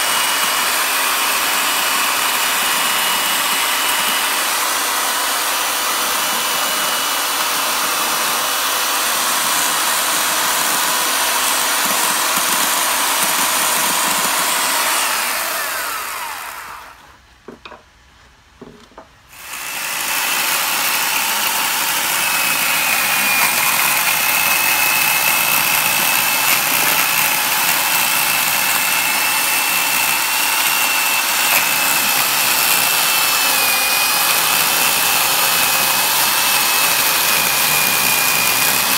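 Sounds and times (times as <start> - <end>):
small chainsaw cutting wood: 0.0 - 17.1, 19.3 - 38.9.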